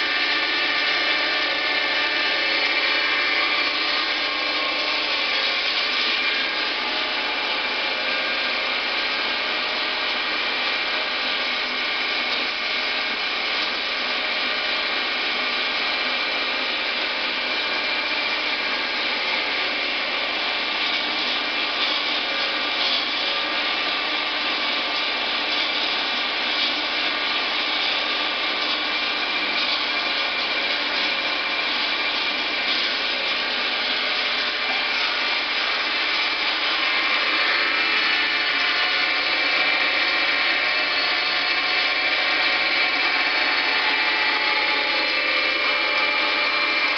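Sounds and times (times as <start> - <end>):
lathe running: 0.0 - 46.9.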